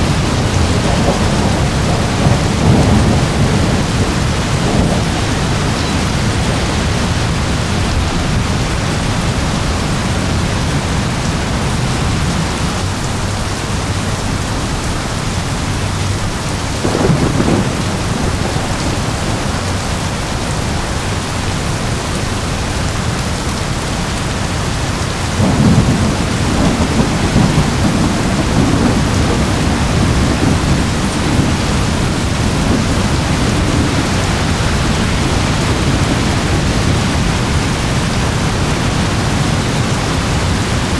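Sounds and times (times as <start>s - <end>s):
thunder: 0.0s - 13.0s, 15.8s - 21.9s, 25.2s - 40.9s
heavy rain: 0.0s - 40.9s.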